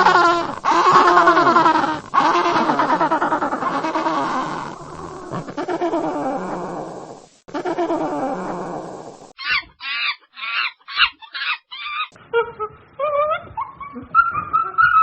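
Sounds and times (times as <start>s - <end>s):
deeper animal call: 0.0s - 15.0s.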